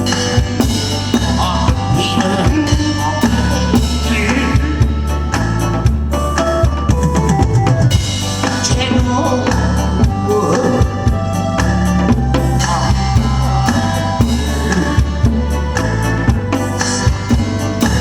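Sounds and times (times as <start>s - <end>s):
trot-style music with drum beat: 0.0s - 18.0s.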